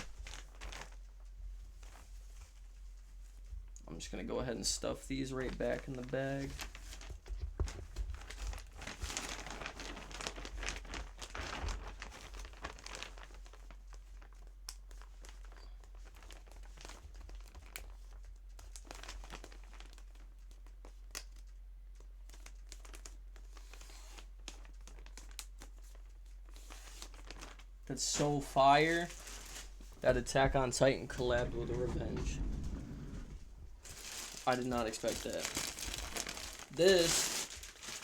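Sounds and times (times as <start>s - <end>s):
bag and packaging crinkling: 0.0s - 1.2s, 5.4s - 20.7s, 22.3s - 38.0s.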